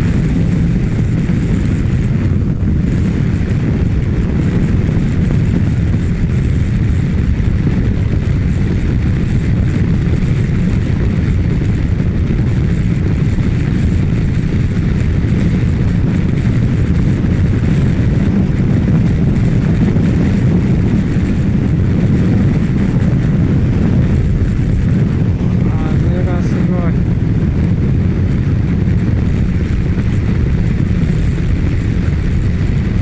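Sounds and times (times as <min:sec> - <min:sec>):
motorcycle engine drone: 0:00.0 - 0:33.0
road noise: 0:00.0 - 0:33.0
wind rushing over microphone: 0:00.0 - 0:33.0.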